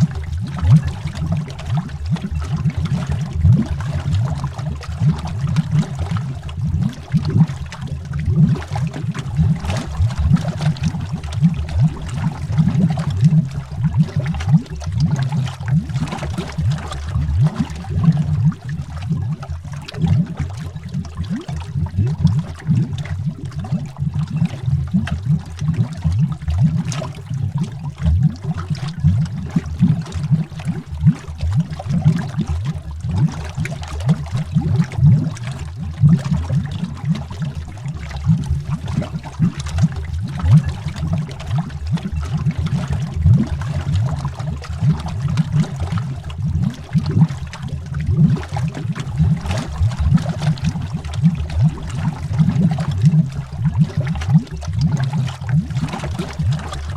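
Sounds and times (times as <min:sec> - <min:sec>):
underwater bubbling: 0:00.0 - 0:56.9.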